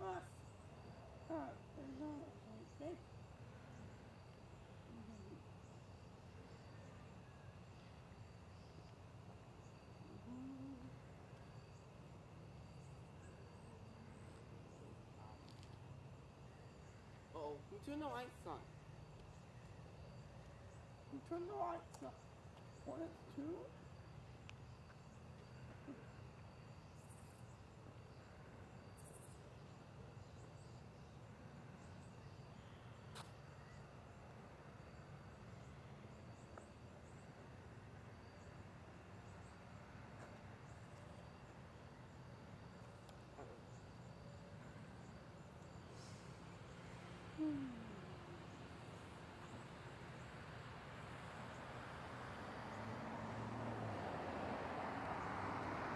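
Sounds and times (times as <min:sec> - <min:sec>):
insect chirps: 0:00.0 - 0:55.9.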